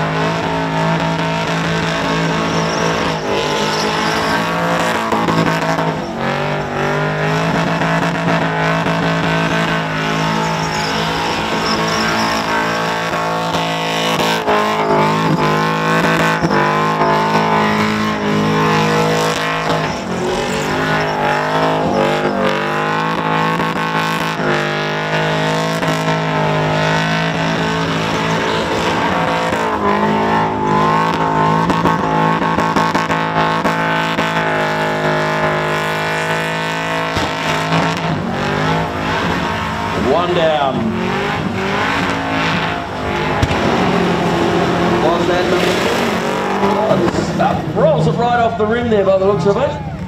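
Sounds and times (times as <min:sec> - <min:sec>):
car engine revving high: 0:00.0 - 0:50.0.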